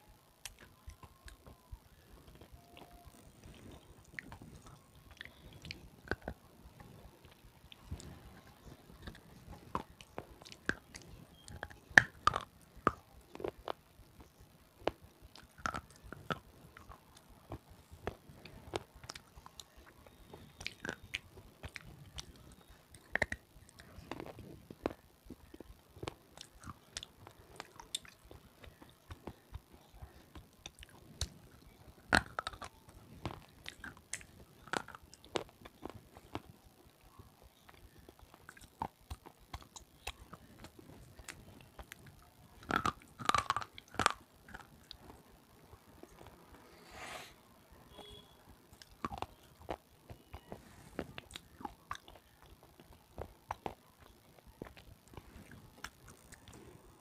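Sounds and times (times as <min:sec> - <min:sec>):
crunchy food chewing: 0:00.4 - 0:45.4, 0:48.7 - 0:57.0.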